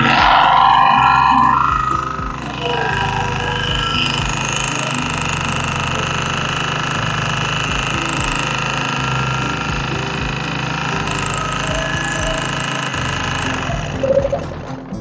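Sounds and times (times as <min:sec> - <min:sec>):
petrol generator running: 0:00.0 - 0:15.0.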